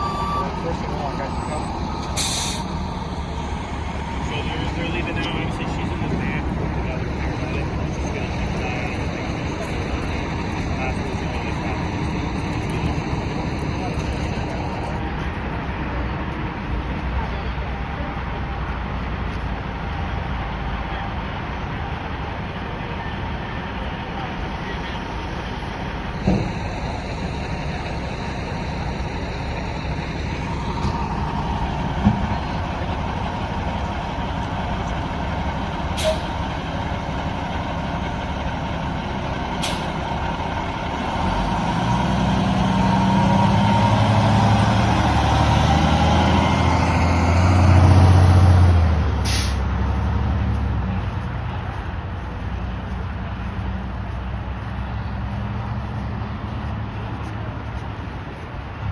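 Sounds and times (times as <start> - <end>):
fire engine motor passing: 0.0 - 58.9.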